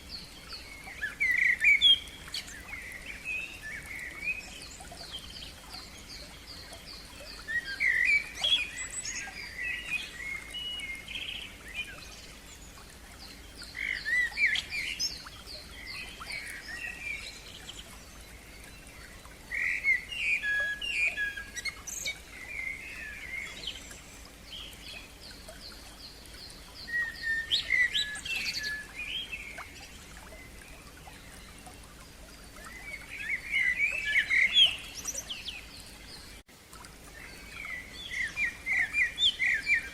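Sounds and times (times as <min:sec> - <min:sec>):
bird song phrase: 0:00.0 - 0:36.4, 0:37.1 - 0:39.9.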